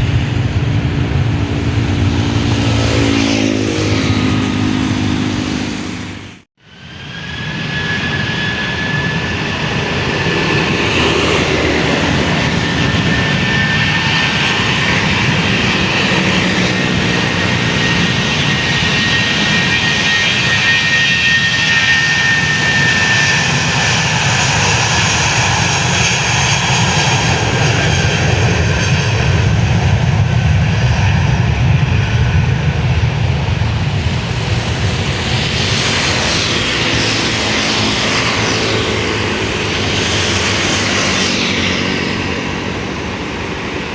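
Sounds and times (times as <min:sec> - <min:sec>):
jet engines whining and roaring: 0:00.0 - 0:43.9.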